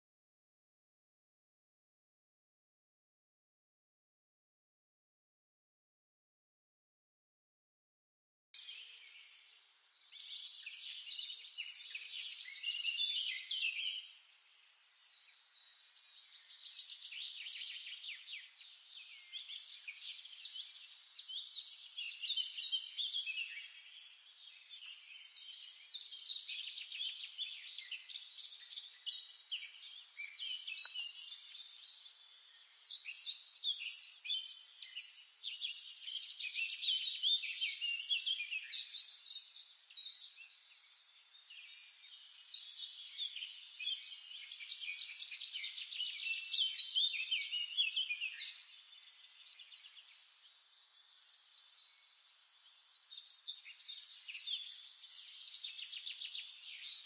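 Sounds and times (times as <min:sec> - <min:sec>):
songbirds chirping and trilling: 0:08.6 - 0:57.0.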